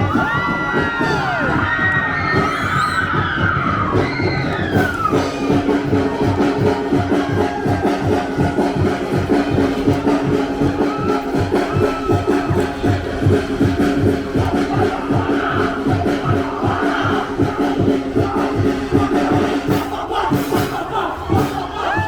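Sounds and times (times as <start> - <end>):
audience cheering and whoops: 0.0 - 22.0
music with fast drum beat: 0.0 - 22.0.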